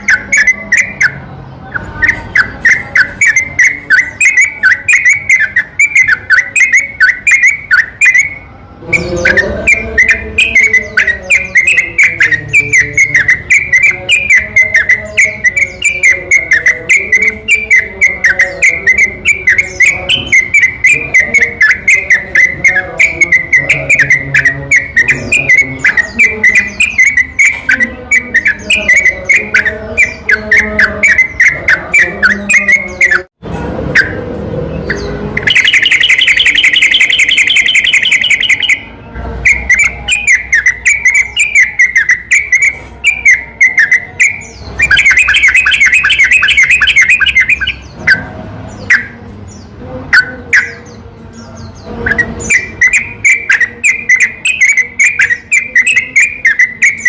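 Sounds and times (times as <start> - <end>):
fast bird trill: 0.0 - 33.3, 34.8 - 57.0.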